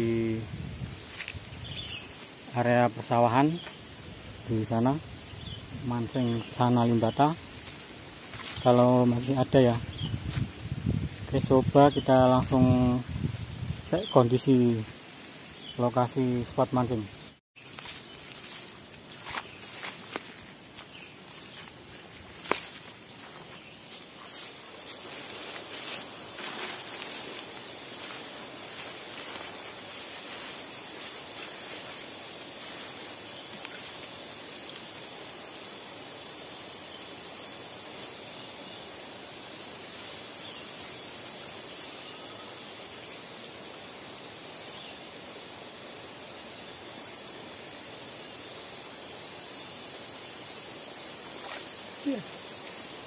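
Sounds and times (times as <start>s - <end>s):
insects hissing: 0.0s - 53.0s.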